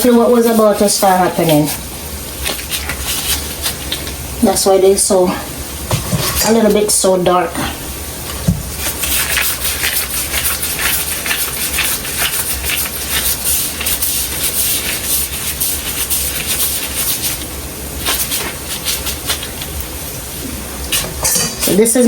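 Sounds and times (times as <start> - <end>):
dumplings sizzling in hot oil: 0.0 - 22.0.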